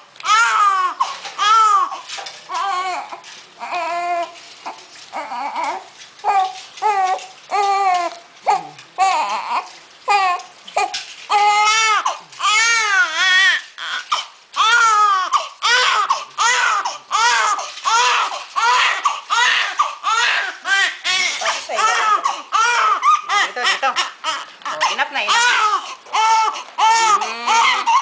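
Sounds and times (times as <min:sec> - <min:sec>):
newborn baby crying: 0:00.2 - 0:28.0.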